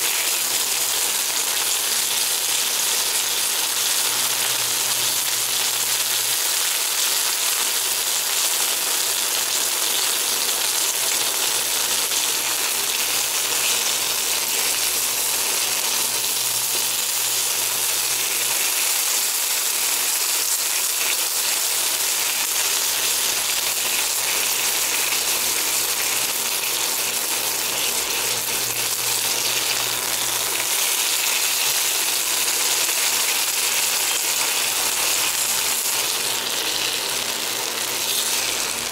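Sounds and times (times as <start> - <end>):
pork chop sizzling in oil: 0.0 - 38.9.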